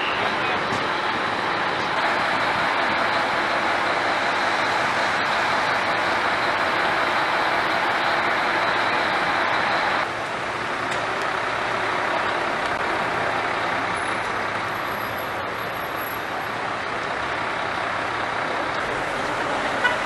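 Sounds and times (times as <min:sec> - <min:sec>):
fire engine running: 0:00.0 - 0:20.0
wet street traffic: 0:00.0 - 0:20.0.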